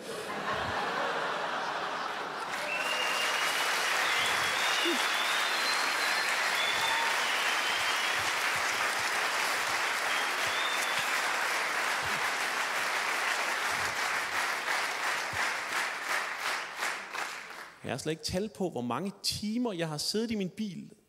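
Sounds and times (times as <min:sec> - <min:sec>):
audience applauding: 0:00.4 - 0:17.8.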